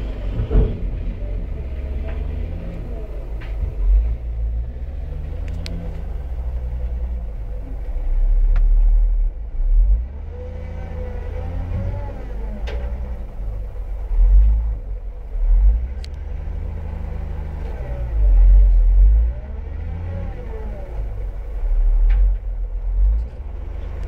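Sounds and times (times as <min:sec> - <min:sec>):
diesel engine deep rumble: 0:00.0 - 0:24.0.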